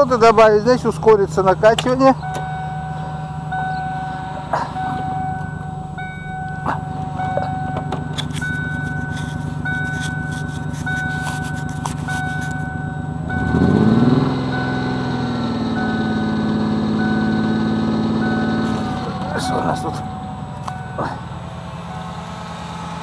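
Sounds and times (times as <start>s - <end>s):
car engine idling and revving: 0.0s - 23.0s
dashboard warning chime beeping: 1.5s - 22.6s.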